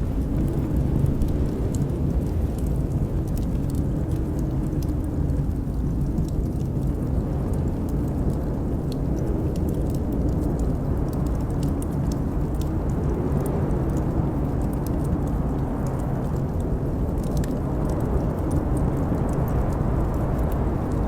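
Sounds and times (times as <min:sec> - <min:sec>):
blizzard wind rumbling: 0:00.0 - 0:21.0
wood fire crackling: 0:00.0 - 0:21.0.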